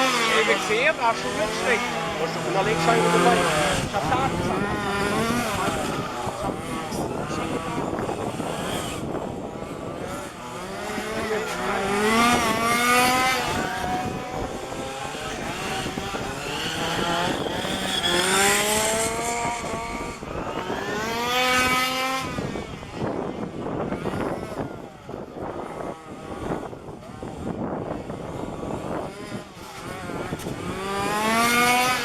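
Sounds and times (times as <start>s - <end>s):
small two-stroke engines revving: 0.0s - 32.0s.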